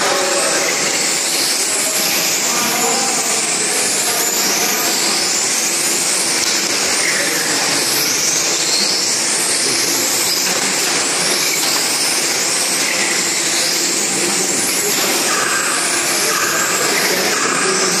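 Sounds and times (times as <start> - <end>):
rc car motors whining: 0.0 - 18.0.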